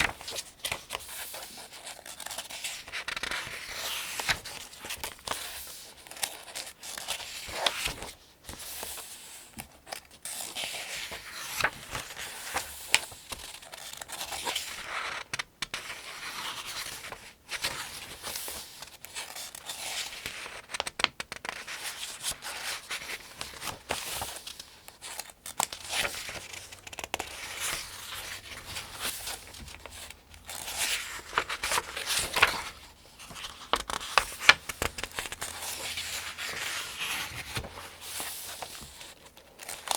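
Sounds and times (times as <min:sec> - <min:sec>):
book pages being turned: 0:00.0 - 0:39.9.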